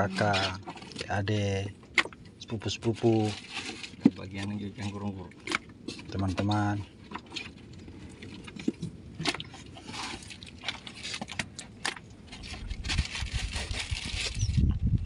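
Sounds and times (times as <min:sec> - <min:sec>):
fish clicking and scraping in box: 0:00.0 - 0:14.8.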